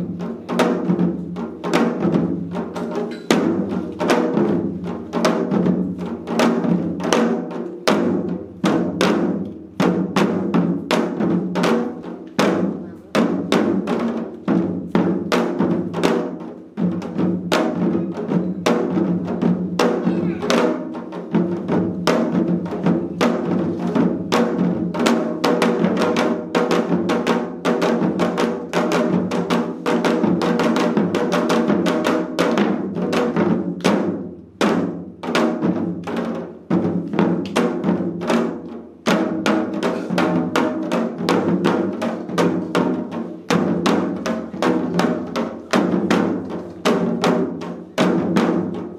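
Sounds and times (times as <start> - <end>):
hourglass drums played rapidly: 0.0 - 48.9.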